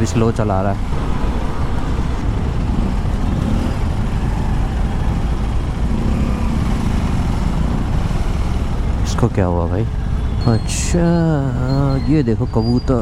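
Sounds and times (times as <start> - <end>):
road and wind rumble: 0.0 - 13.0
motorcycle engine running: 0.4 - 13.0.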